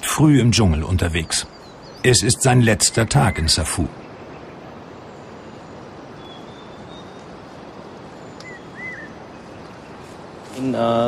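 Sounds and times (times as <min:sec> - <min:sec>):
bird chirps: 0:00.0 - 0:10.3
steady even hiss: 0:00.0 - 0:11.0.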